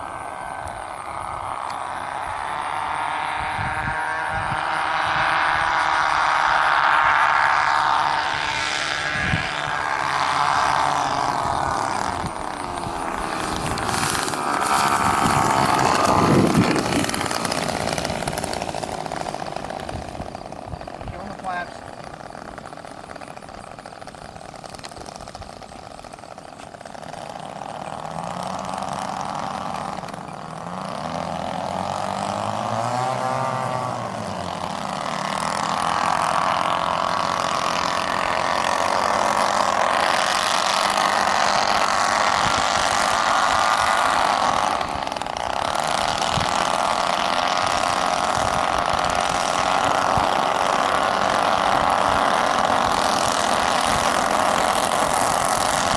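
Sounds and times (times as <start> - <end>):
model airplane engines humming: 0.0 - 55.9.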